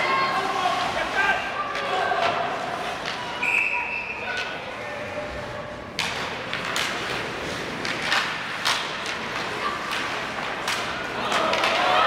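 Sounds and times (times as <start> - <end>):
hockey sticks and puck clacking: 0.1 - 4.8, 5.8 - 12.0.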